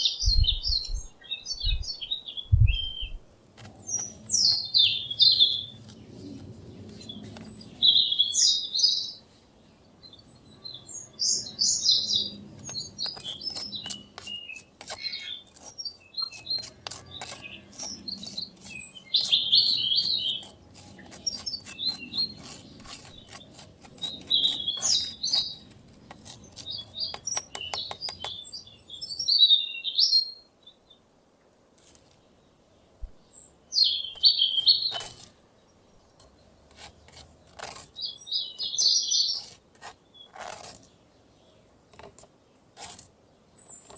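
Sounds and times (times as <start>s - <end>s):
small birds chirping: 0.0s - 31.0s, 31.8s - 43.9s.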